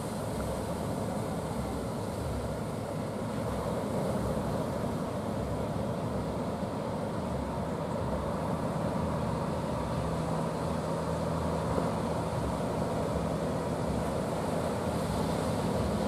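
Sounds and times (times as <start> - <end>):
faint engine hum: 0.0 - 16.0
ocean surf roaring: 0.0 - 16.0.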